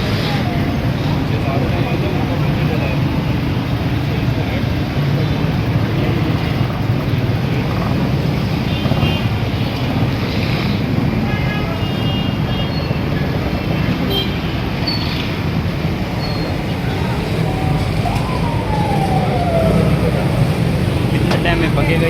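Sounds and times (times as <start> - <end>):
busy street traffic rumble: 0.0 - 22.0.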